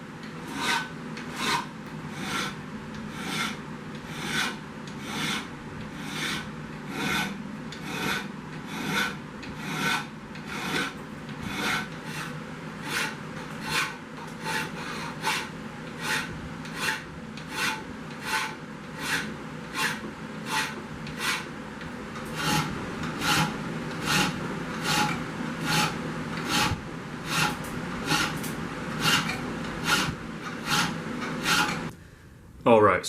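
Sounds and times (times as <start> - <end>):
hand file rasping on steel: 0.5 - 21.5, 22.2 - 31.9.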